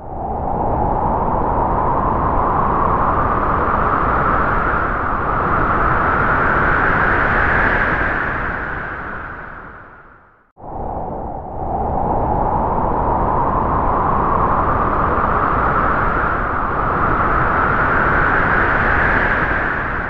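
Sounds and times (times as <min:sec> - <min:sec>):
howling wind with hollow whine: 0:00.0 - 0:20.0.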